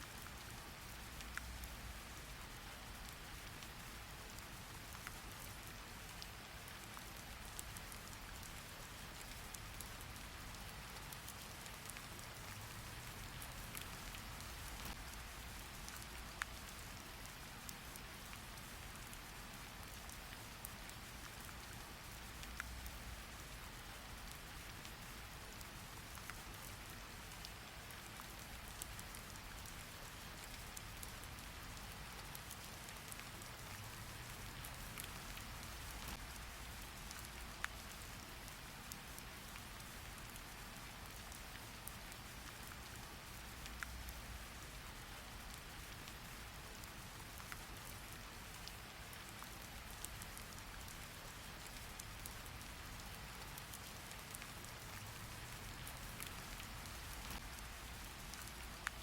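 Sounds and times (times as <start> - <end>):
rainfall hiss: 0.0 - 59.0.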